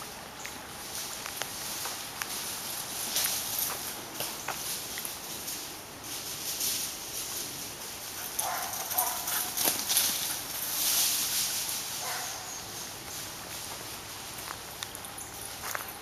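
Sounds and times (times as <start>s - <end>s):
footsteps crunching through dry leaves: 0.0s - 16.0s.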